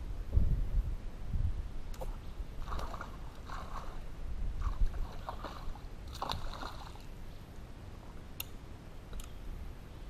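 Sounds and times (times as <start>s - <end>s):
low steady rumble: 0.0s - 10.0s
rustle: 0.0s - 10.0s.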